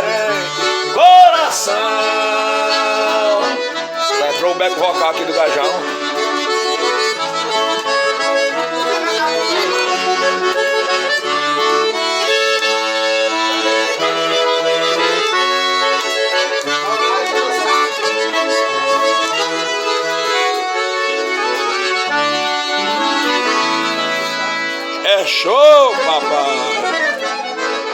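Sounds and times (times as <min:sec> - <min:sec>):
accordions playing a melody: 0:00.0 - 0:27.9.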